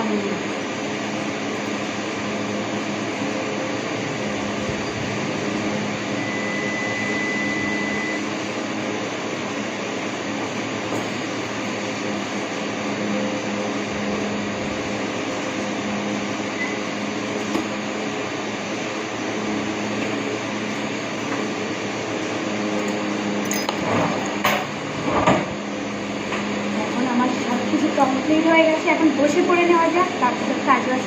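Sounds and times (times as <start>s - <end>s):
machine whirring hum: 0.0s - 31.0s.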